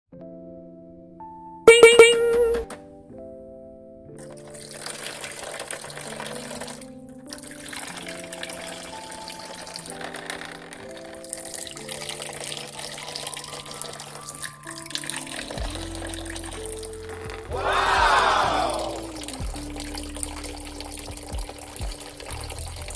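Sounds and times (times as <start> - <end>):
simple background music: 0.1 - 22.9.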